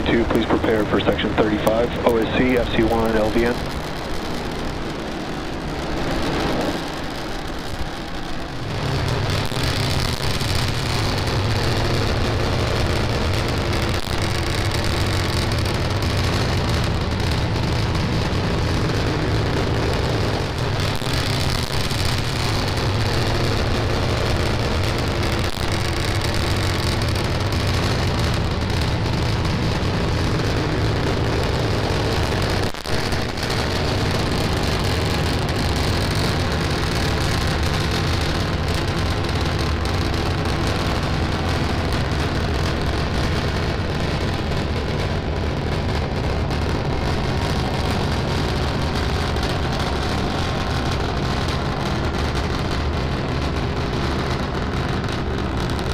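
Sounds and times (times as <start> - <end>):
rocket engines crackling roar: 0.0 - 55.9.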